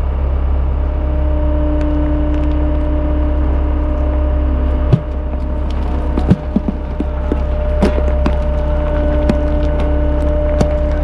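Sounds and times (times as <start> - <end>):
road roller engine running: 0.0 - 11.0.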